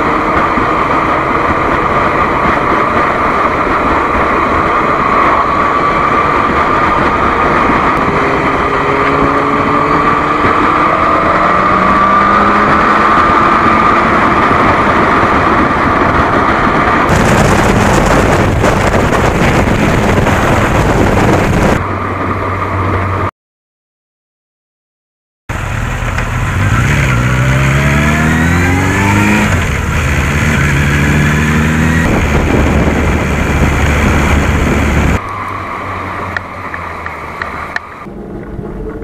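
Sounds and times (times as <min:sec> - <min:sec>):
motorcycle engine: 0:00.0 - 0:23.3, 0:25.5 - 0:39.0
wind rush over microphone: 0:00.0 - 0:23.3, 0:27.3 - 0:39.0.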